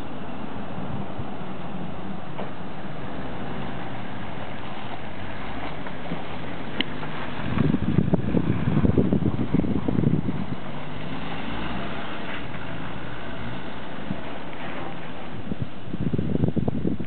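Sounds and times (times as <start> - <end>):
vehicle driving past on dirt: 0.0 - 15.6
wind buffeting microphone: 0.0 - 17.0.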